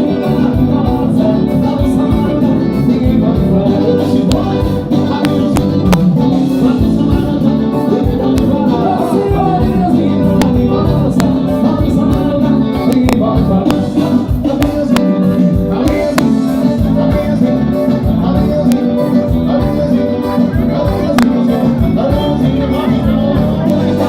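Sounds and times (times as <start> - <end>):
band playing folk dance music: 0.0 - 24.0.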